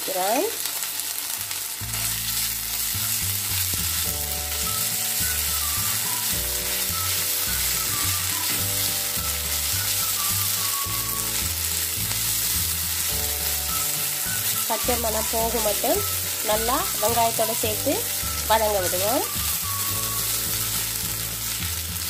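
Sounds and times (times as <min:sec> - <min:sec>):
onions sizzling in hot oil: 0:00.0 - 0:22.0
spatula stirring in pan: 0:01.8 - 0:22.0
background music: 0:01.9 - 0:22.0.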